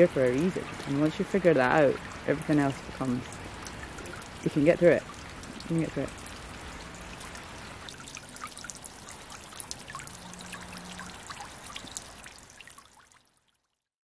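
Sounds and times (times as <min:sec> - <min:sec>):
water trickling with drips: 0:00.0 - 0:13.9.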